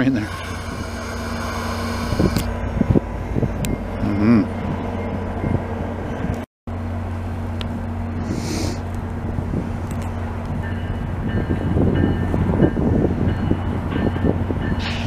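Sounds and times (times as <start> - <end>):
train coaches rumbling past: 0.0 - 15.0.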